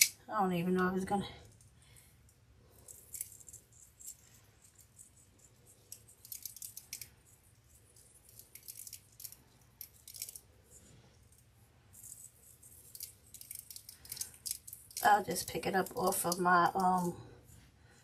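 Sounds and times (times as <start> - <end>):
beads clicking and rattling: 1.4 - 17.2.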